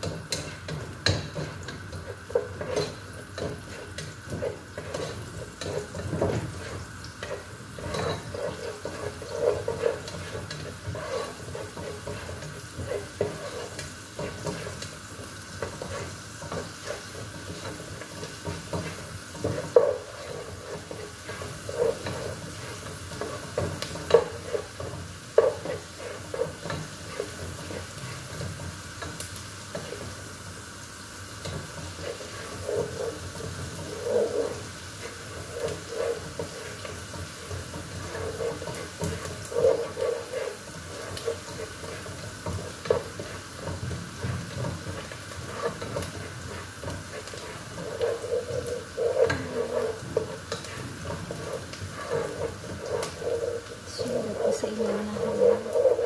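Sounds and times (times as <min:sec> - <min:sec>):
frying sizzle: 0:00.0 - 0:56.0
wooden spoon scraping a pot: 0:00.0 - 0:56.0.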